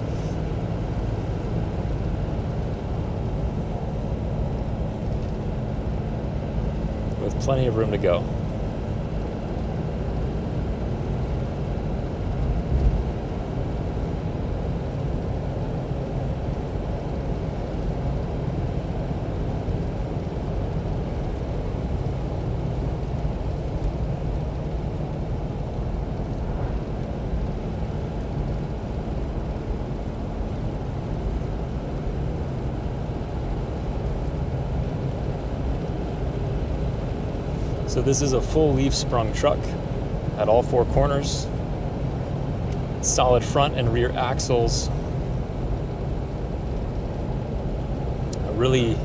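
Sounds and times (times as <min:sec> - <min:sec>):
diesel engine droning: 0:00.0 - 0:49.0
road noise: 0:00.0 - 0:49.0.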